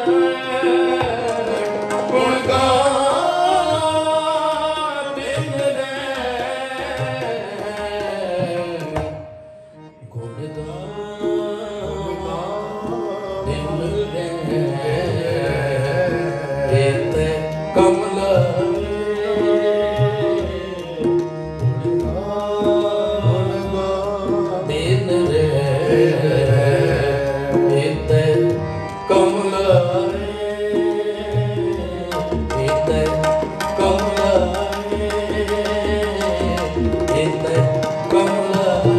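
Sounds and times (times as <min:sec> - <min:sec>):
men singing: 0:00.0 - 0:09.1, 0:10.2 - 0:38.9
tabla drumming: 0:00.0 - 0:09.6, 0:11.2 - 0:38.9
harmonium: 0:00.0 - 0:38.9.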